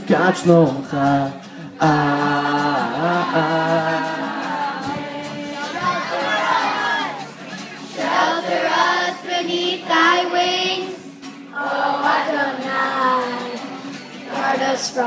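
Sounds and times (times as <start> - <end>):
children singing: 1.8 - 15.0.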